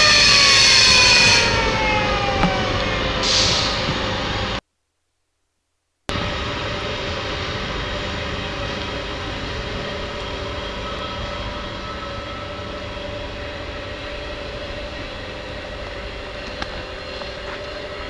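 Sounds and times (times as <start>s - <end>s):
diesel engines with constant whine: 0.0s - 4.6s, 6.1s - 18.0s.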